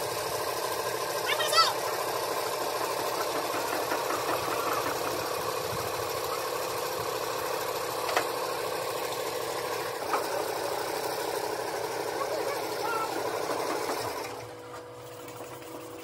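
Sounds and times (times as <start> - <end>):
motor running: 0.0 - 16.0.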